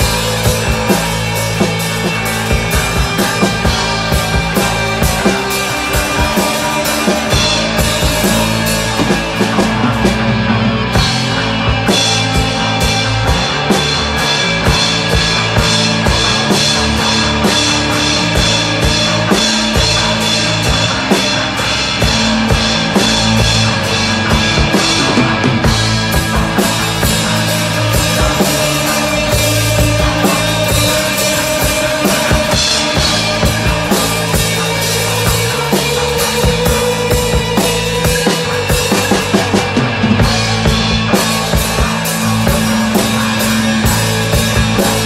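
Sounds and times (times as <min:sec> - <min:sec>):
drums driving beat: 0:00.0 - 0:45.0
instrumental rock band: 0:00.0 - 0:45.0.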